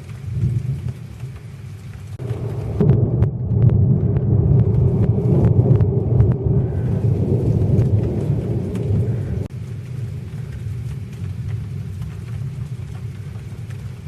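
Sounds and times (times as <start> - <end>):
raindrops ticking: 0.0 - 14.0
thunder rumbling: 0.0 - 14.0.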